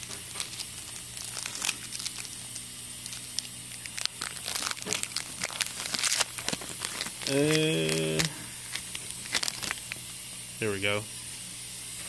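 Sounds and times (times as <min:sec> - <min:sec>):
foil wrapper tearing and crinkling: 0:00.0 - 0:10.0.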